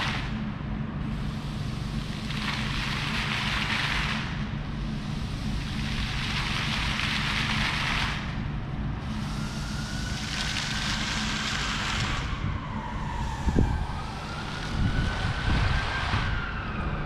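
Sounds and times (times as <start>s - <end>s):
low steady hum: 0.0s - 17.0s
steady street hiss: 0.0s - 17.0s.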